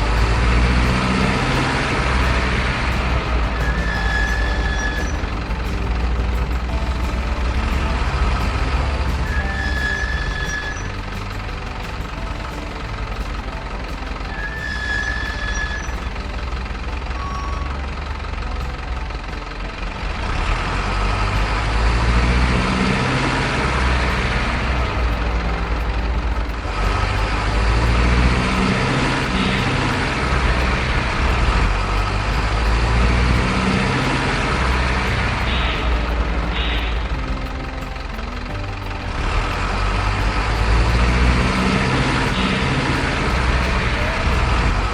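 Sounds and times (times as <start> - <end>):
noisy hiss: 0.0 - 44.9
truck engine rumbling: 0.0 - 44.9.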